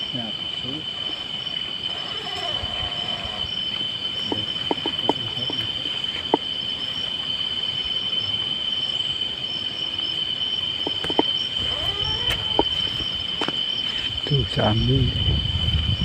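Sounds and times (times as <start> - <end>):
night insects droning: 0.0 - 16.0.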